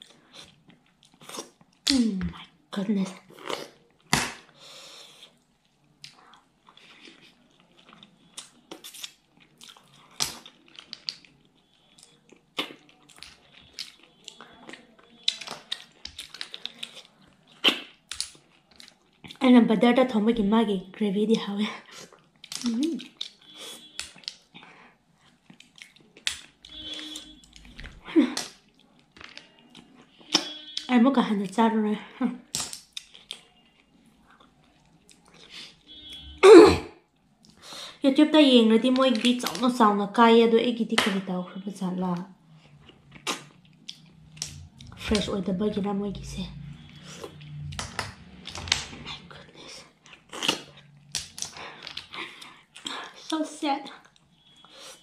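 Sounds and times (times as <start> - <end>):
close chewing and smacking: 0.0 - 2.6, 3.2 - 19.4, 21.8 - 30.9, 32.4 - 36.2, 37.1 - 37.7, 42.1 - 45.3, 46.5 - 55.0.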